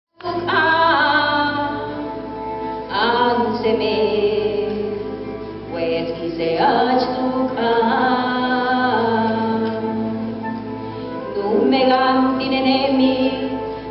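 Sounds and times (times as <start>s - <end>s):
person singing: 0.2s - 13.9s.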